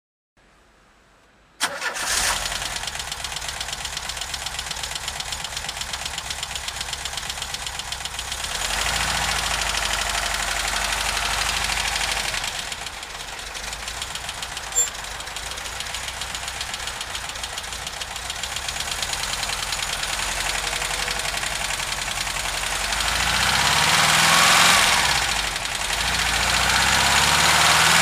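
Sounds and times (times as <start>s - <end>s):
van engine starting and running: 1.6s - 28.0s.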